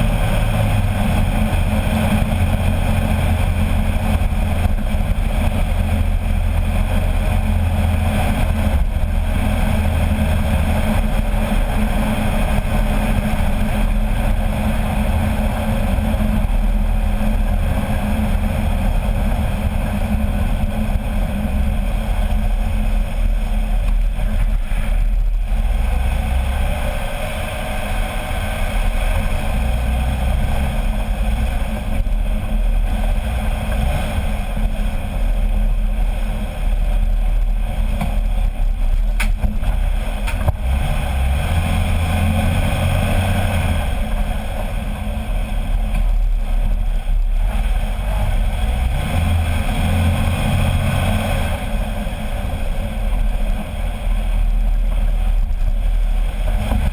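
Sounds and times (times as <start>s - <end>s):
rumble of tyres and drivetrain: 0.0s - 56.9s.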